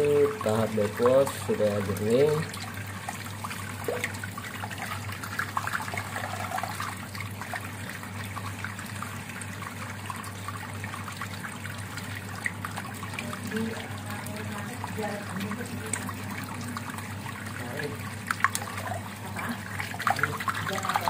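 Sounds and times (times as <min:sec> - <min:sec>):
steady low hum: 0:00.0 - 0:21.0
water splashing from drain pipe: 0:00.0 - 0:21.0.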